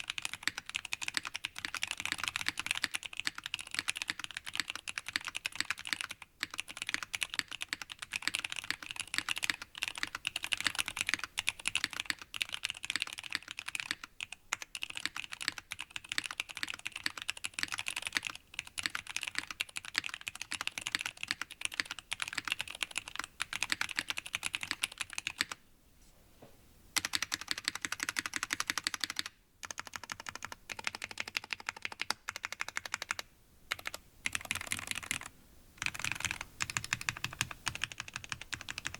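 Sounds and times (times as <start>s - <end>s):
mechanical keyboard typing: 0.0s - 25.6s, 27.0s - 38.9s.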